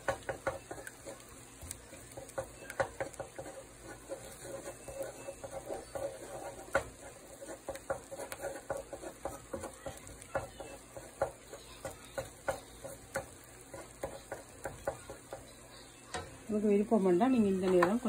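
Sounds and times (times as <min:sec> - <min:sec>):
spatula tapping against pan: 0:00.0 - 0:16.4, 0:17.5 - 0:18.0
faint sizzle: 0:00.0 - 0:18.0
spatula stirring and scraping in a pan: 0:00.0 - 0:18.0.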